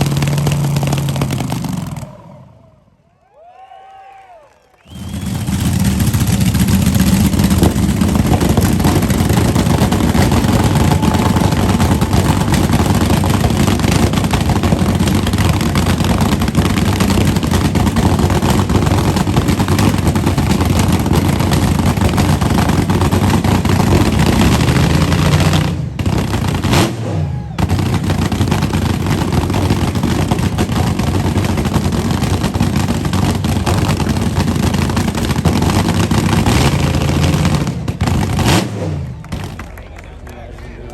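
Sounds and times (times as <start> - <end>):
car engine and exhaust noise: 0.0 - 3.1, 4.8 - 40.9.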